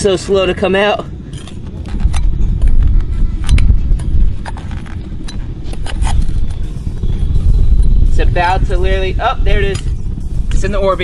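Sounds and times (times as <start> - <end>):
loud low rumble: 1.6 - 11.0.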